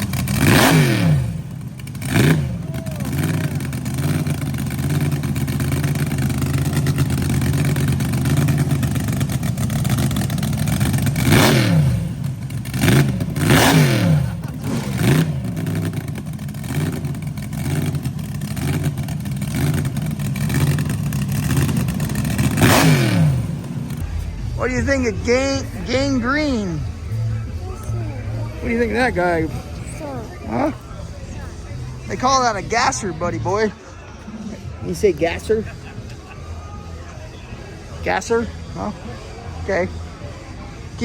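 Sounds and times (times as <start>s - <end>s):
car engine idling: 0.0s - 41.0s
engine throttle blips: 0.0s - 41.0s.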